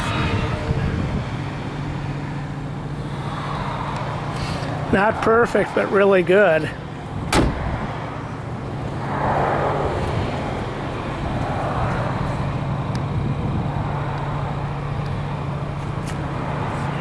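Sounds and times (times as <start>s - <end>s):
car engine idling: 0.0s - 9.2s, 9.8s - 17.0s.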